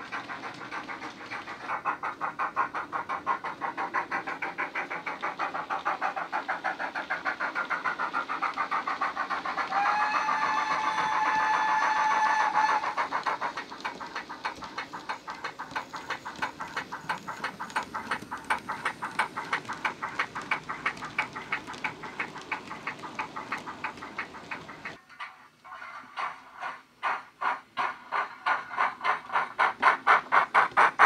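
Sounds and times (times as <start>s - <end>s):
steam locomotive exhaust chuffs: 0.0s - 31.0s.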